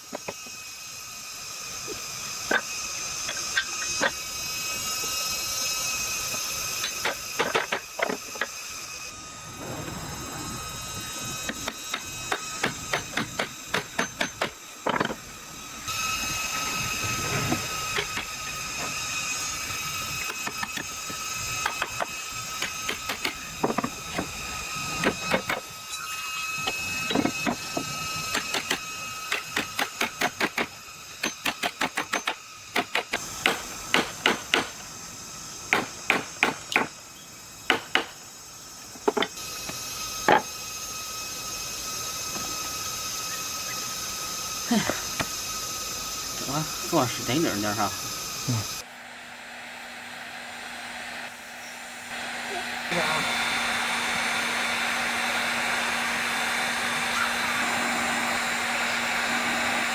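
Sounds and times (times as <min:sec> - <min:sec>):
steady high hum and hiss: 0:00.0 - 0:59.9.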